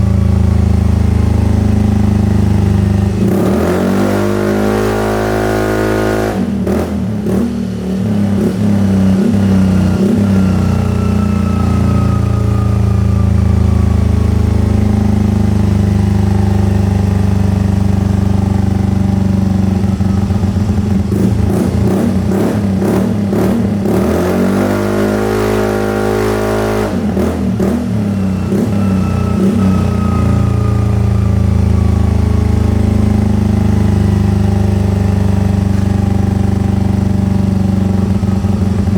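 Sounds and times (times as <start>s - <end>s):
scooter engine revving and idling: 0.0s - 38.9s.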